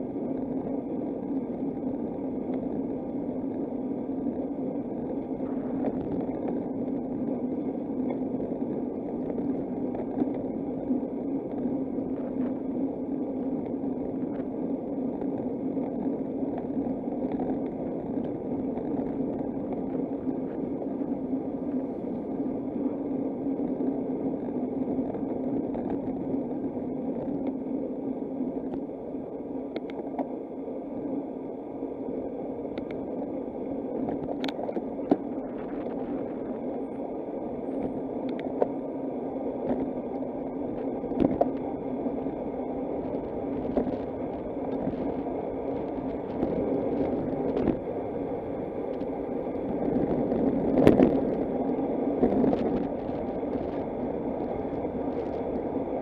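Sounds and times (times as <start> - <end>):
bicycle tyres on road: 0.0 - 30.5, 32.7 - 56.0.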